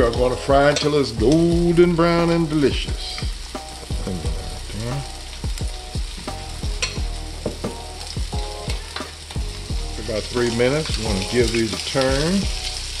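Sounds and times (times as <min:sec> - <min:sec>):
hash brown sizzling in oil: 0:00.0 - 0:13.0.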